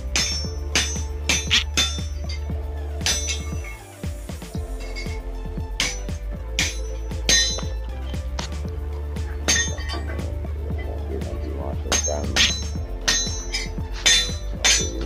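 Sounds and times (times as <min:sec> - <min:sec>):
tools clinking on metal: 0:00.0 - 0:03.8, 0:04.7 - 0:08.6, 0:09.2 - 0:10.9, 0:11.9 - 0:15.0
low hum: 0:00.0 - 0:15.0.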